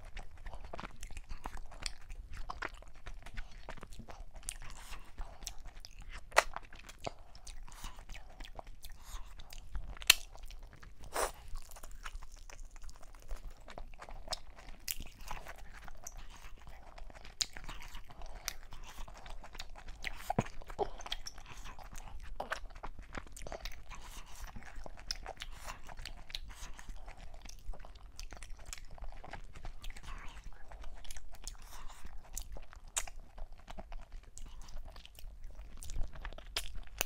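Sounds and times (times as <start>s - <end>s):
person chewing with wet mouth sounds: 0.0s - 37.0s.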